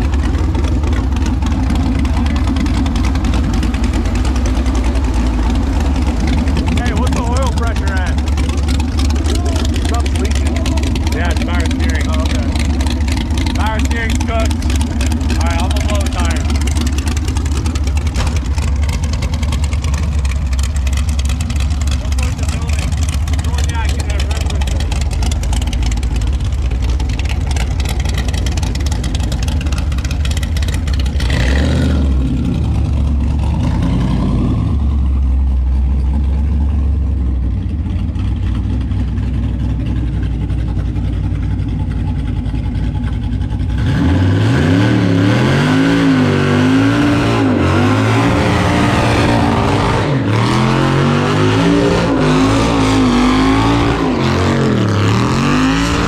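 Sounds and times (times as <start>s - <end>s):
car engine revving: 0.0s - 56.0s
car engine running: 0.0s - 56.0s.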